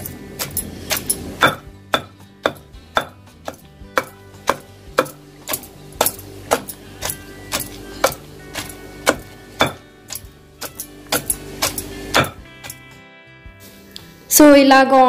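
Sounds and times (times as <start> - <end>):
pestle pounding in stone mortar: 0.0 - 12.8.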